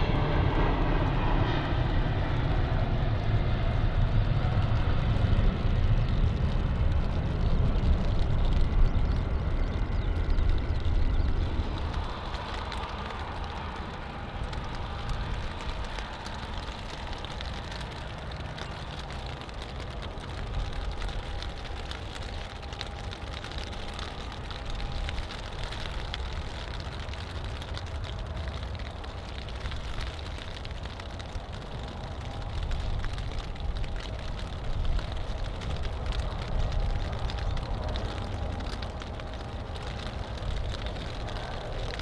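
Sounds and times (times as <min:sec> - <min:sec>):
jet engines roaring: 0:00.0 - 0:42.0
rain hiss: 0:00.0 - 0:42.0.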